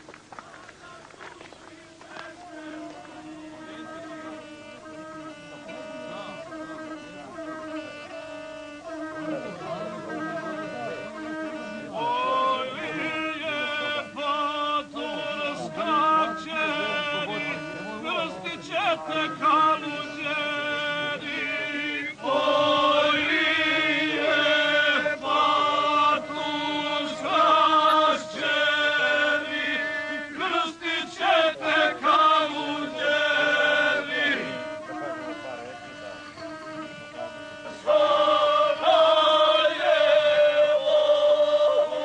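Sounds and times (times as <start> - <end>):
men singing in chant style: 0.8 - 42.0
musical accompaniment: 2.0 - 42.0
steady held tone: 2.3 - 42.0.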